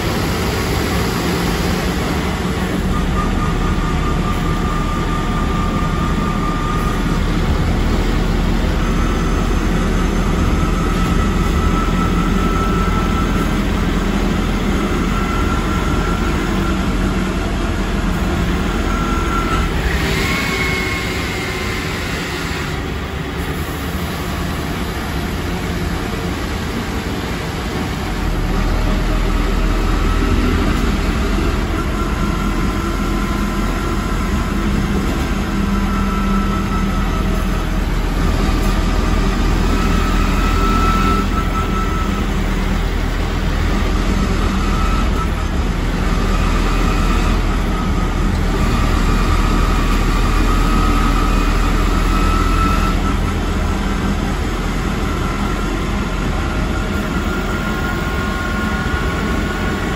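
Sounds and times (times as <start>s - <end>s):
diesel engine rumble: 0.0s - 59.9s.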